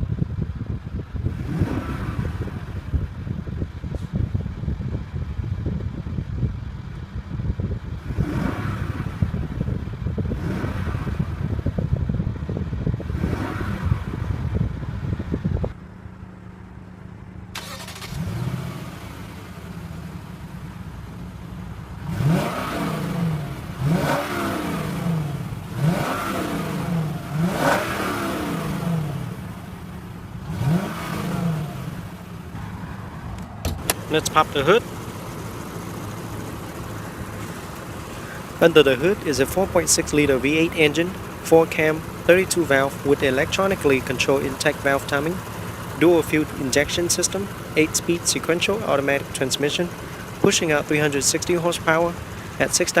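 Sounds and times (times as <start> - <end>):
car engine idling: 0.0 - 53.0
engine throttle blips: 0.0 - 53.0.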